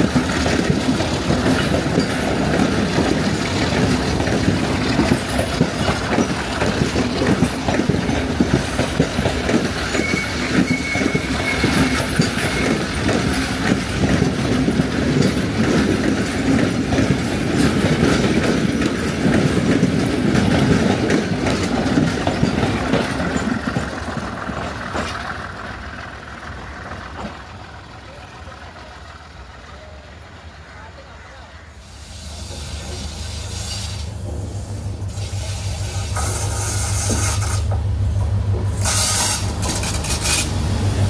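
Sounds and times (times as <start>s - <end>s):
train wheels clattering over joints: 0.0s - 30.0s, 32.4s - 41.0s.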